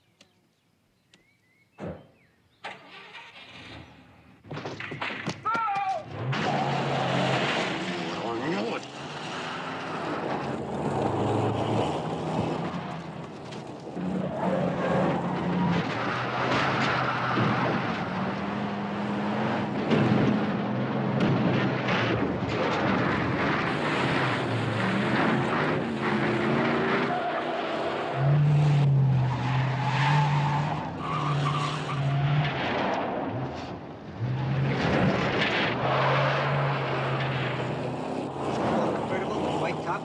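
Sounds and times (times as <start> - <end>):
tyres on a dirt road: 0.0 - 40.0
car engines running hard: 6.0 - 40.0.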